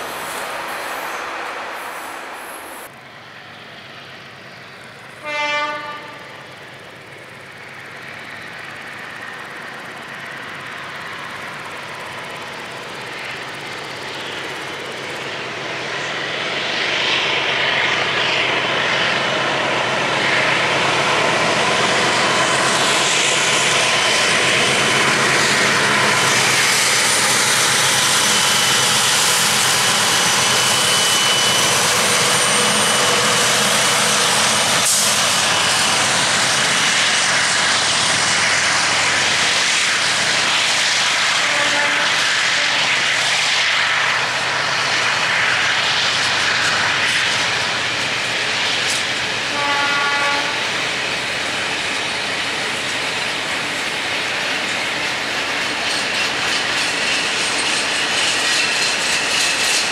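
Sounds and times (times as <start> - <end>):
diesel locomotive engine drone: 0.0 - 59.9
freight train rolling by: 0.0 - 59.9.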